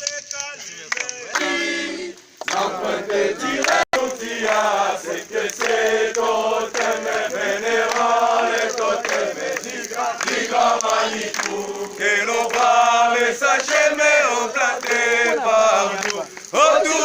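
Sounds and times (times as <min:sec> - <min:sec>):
group of voices chanting: 0:00.9 - 0:17.0.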